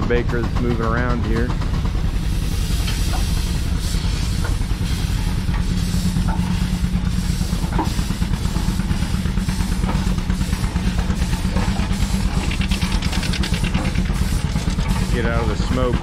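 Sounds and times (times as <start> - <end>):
steam engine exhaust chuffing: 0.0 - 16.0.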